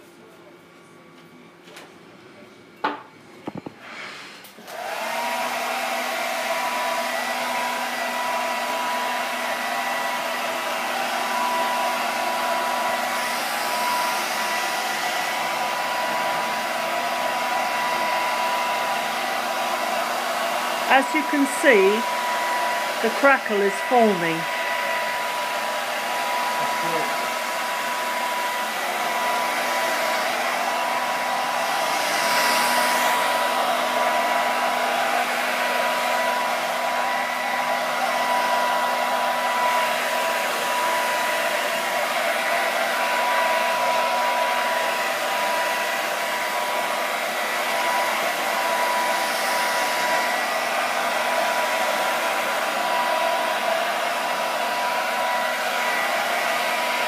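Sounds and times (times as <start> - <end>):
hair dryer blowing: 3.4 - 57.0.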